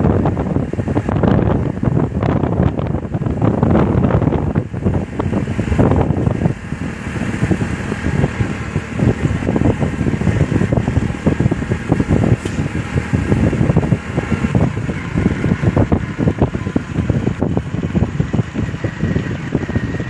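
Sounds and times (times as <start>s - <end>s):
vehicle running: 0.0s - 20.0s
wind buffeting microphone: 0.0s - 20.0s.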